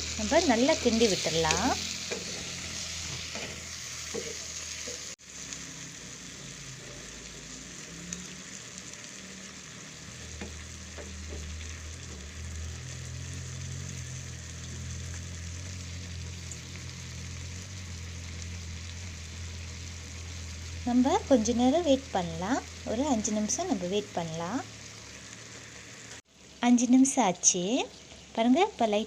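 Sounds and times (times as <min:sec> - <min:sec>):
chicken sizzling in a pan: 0:00.0 - 0:29.0.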